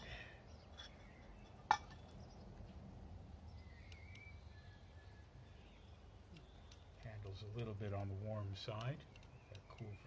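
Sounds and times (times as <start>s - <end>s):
outdoor background: 0.0s - 10.0s.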